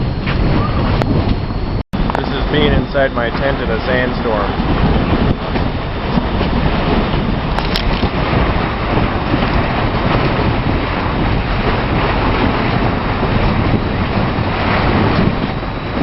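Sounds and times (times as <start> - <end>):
wind blowing hard: 0.0 - 16.0.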